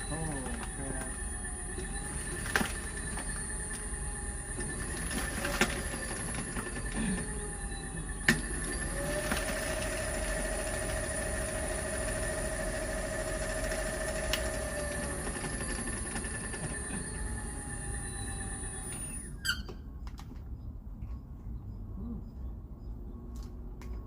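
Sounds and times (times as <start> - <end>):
electric motor whine: 0.0 - 19.4
steady high whine: 0.0 - 20.2.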